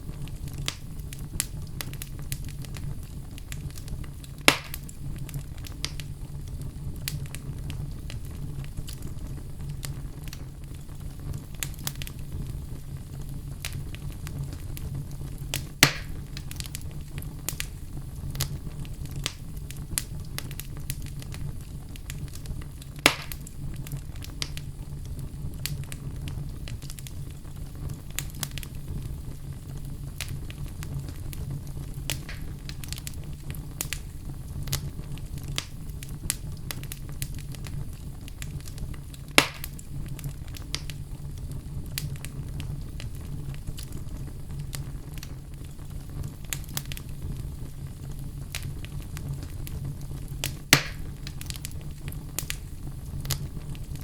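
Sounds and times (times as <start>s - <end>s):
fire low rumble: 0.0s - 54.0s
wood fire crackling: 0.0s - 54.0s.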